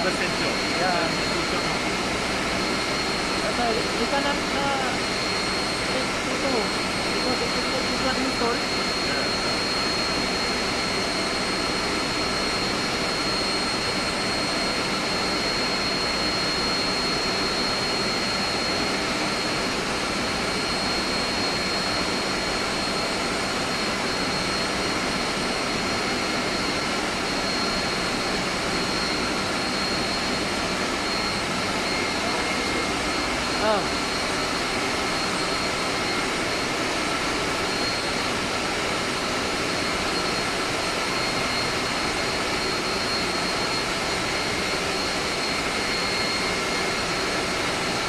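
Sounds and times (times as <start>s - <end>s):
high whine: 0.0s - 48.0s.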